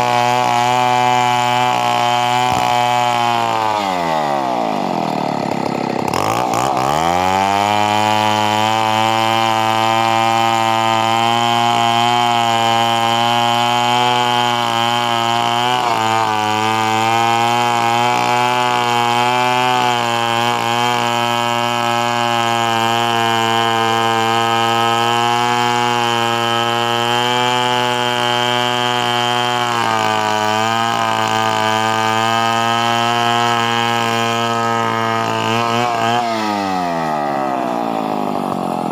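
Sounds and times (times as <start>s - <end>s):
chainsaw engine at high revs: 0.0s - 38.9s.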